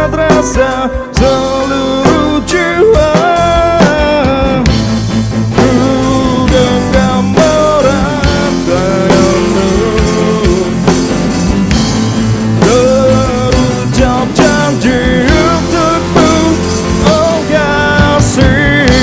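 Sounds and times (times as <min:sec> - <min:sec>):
bass: 0:00.0 - 0:19.0
lead melody with bending notes: 0:00.0 - 0:19.0
steady drum beat: 0:00.0 - 0:19.0.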